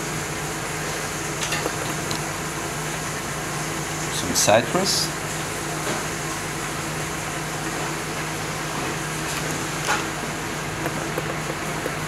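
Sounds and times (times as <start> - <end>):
ventilation fan hum: 0.0 - 12.0.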